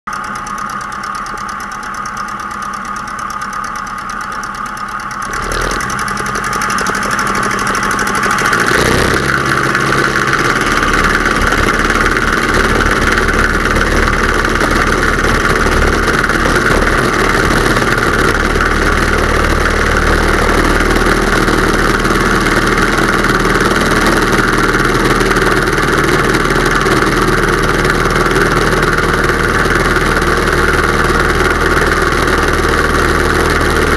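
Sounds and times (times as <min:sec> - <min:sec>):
aircraft engine and propeller: 0:00.1 - 0:33.9.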